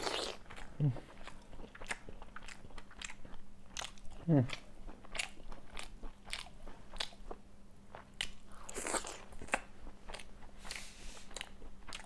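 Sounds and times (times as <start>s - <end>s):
person chewing with wet mouth clicks: 0.0s - 12.0s.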